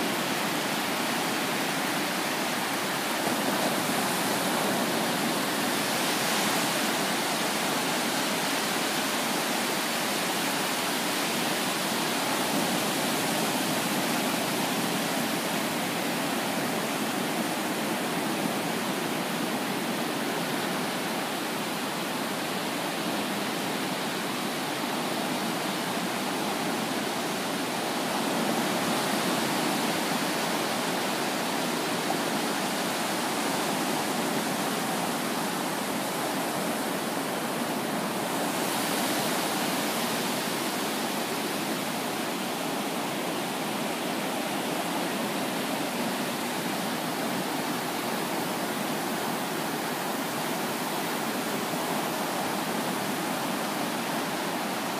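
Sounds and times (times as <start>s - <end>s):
waves breaking on sand: 0.0s - 54.9s.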